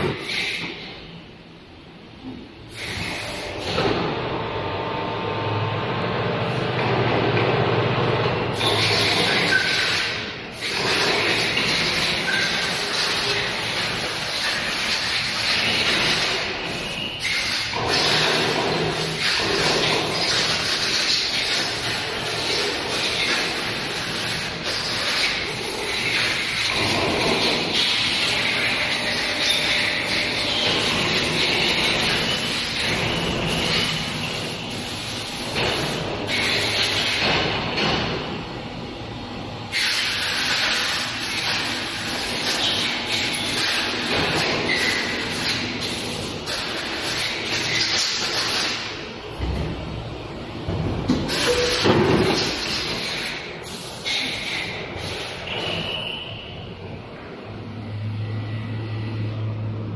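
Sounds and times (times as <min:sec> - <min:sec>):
machine mechanical hum: 0:00.0 - 0:59.9.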